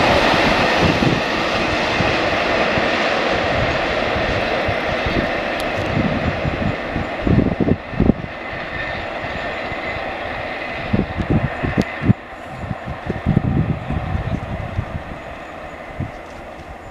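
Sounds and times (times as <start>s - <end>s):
freight wagons rolling on rails: 0.0s - 16.9s.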